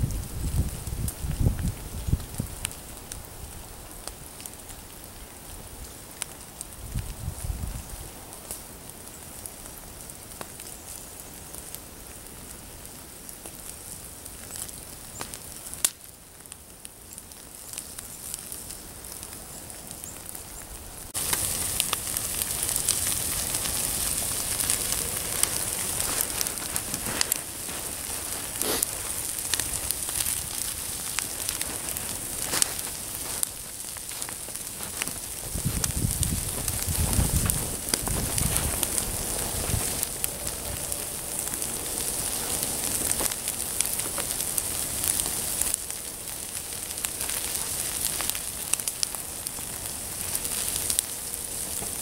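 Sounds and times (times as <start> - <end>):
firewood fire crackling and hissing: 0.0 - 52.0.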